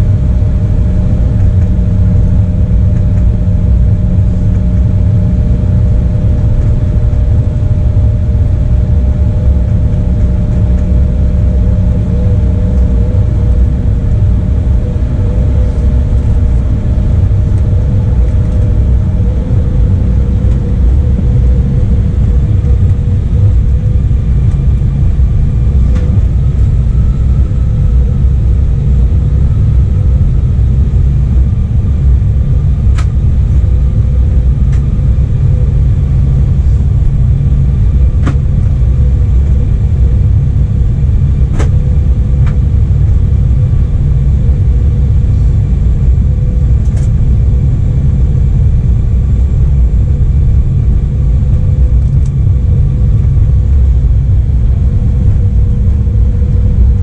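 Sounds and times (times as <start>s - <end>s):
faint jet engine hum: 0.0s - 57.0s
jet cabin low rumble: 0.0s - 57.0s.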